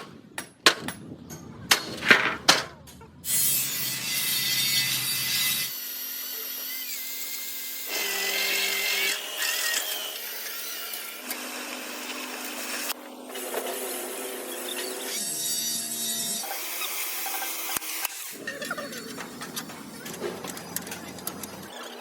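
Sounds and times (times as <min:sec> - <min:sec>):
power tools hissing and whining: 0:03.3 - 0:22.0.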